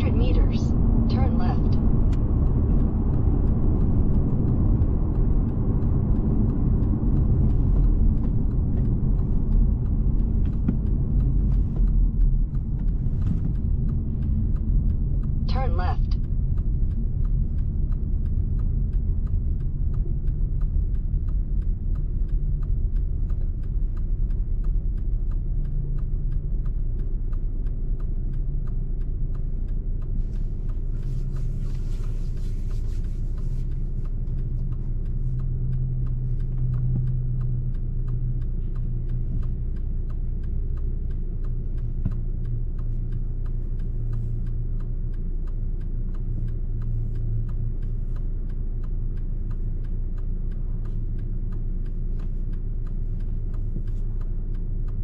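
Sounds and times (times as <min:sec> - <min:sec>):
car driving at speed rumble: 0:00.0 - 0:55.0.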